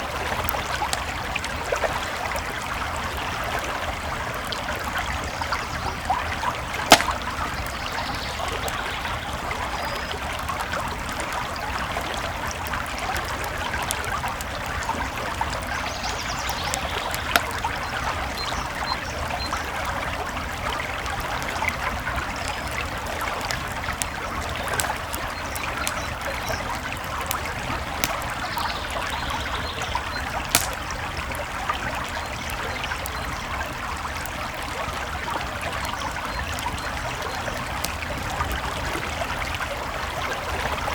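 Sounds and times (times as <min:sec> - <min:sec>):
campfire crackling: 0:00.0 - 0:40.9
creek water flowing: 0:00.0 - 0:40.9.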